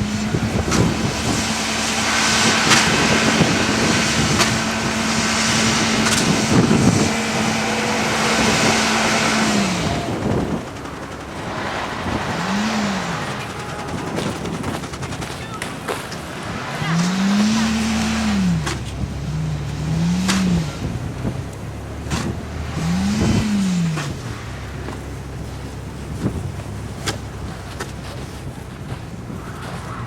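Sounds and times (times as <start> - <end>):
car engine revving: 0.0 - 30.0
tires churning snow: 0.0 - 30.0.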